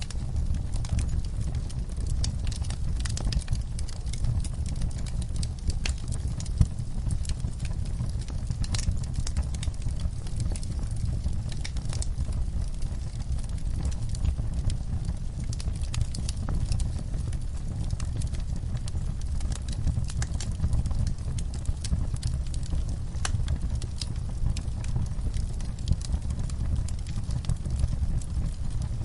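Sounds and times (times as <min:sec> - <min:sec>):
burning wood crackling and popping: 0:00.0 - 0:29.0
low rumble of flames: 0:00.0 - 0:29.0.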